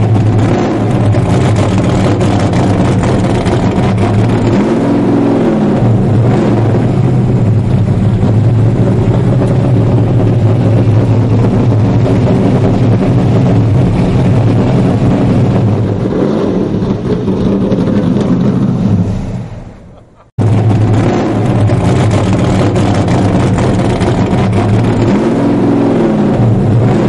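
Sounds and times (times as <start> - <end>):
loud engine running: 0.0 - 27.0.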